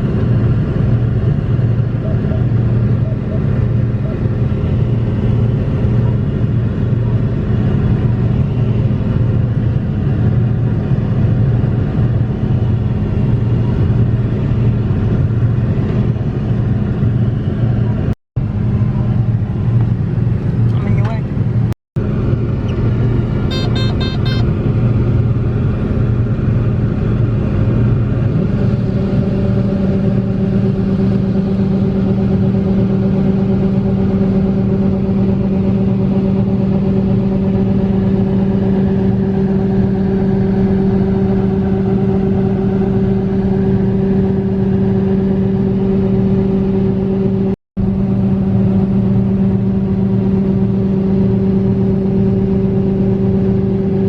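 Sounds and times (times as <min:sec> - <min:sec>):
farm machine engine droning: 0:00.0 - 0:54.0.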